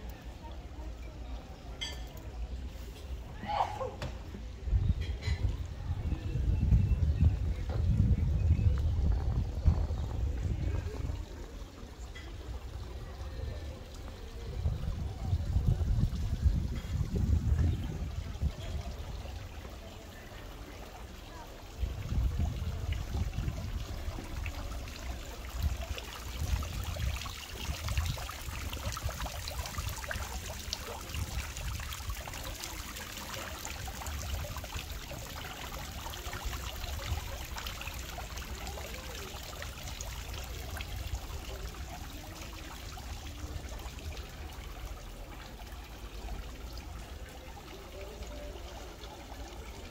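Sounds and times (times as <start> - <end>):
running water trickling and splashing: 0.0 - 49.9.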